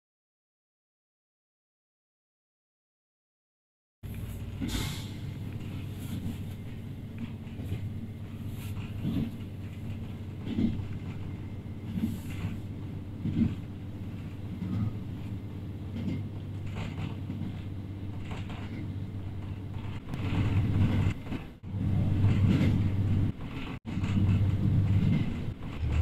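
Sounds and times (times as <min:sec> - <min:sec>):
railcar interior drone: 0:04.0 - 0:26.0.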